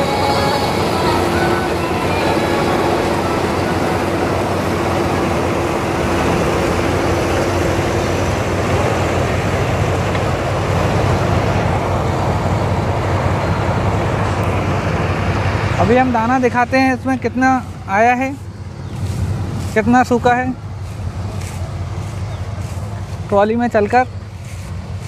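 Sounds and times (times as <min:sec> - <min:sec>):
combine harvester engine drone: 0:00.0 - 0:25.0
thin steady whine: 0:00.0 - 0:25.0
threshing machinery noise: 0:00.0 - 0:25.0.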